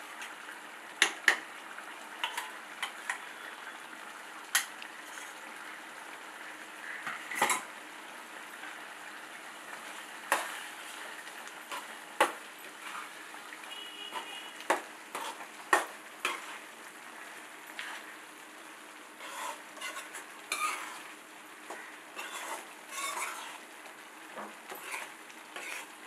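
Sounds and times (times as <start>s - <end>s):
gravy sizzling: 0.0s - 26.0s.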